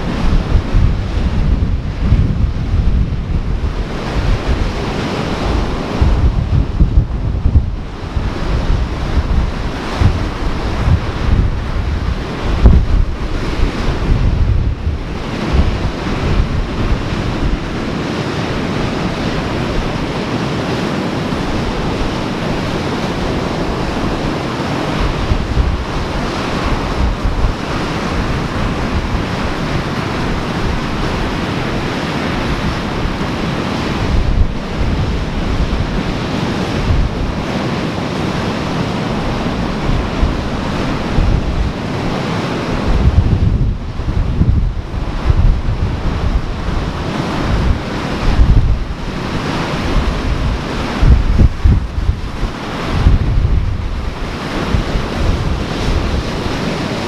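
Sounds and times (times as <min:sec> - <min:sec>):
ocean surf washing on shore: 0:00.0 - 0:57.0
wind buffeting microphone: 0:00.0 - 0:57.0.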